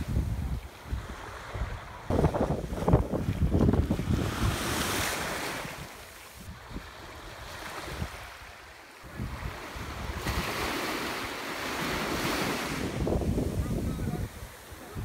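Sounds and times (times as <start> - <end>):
sea waves rushing: 0.0 - 15.0
wind gusting on microphone: 0.0 - 15.0.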